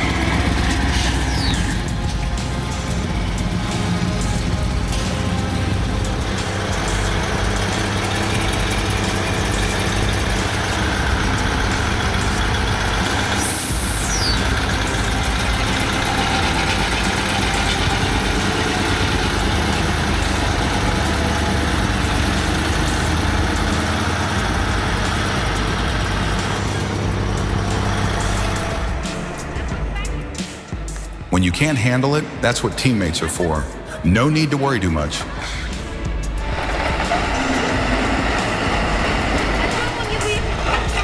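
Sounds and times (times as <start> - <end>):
truck engine running under load: 0.0 - 29.8, 35.2 - 41.0.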